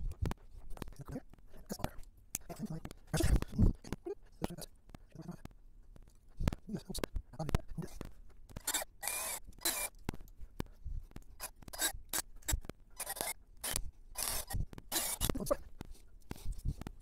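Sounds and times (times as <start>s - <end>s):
plastic parts scraping and rubbing: 0.0s - 17.0s.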